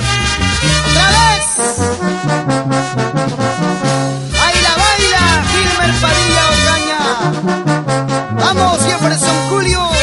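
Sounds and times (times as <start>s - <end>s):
brass band playing: 0.0s - 10.0s
tuba bass line: 0.0s - 10.0s.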